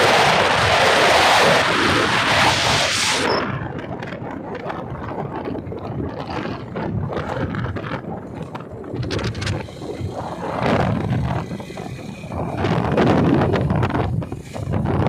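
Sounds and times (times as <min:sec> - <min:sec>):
bike moving: 0:00.0 - 0:15.0
wind buffeting microphone: 0:00.0 - 0:15.0.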